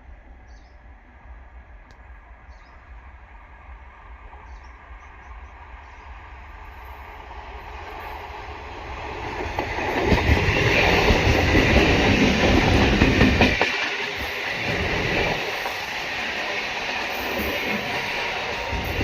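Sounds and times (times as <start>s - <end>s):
train passing close by: 0.0s - 19.0s.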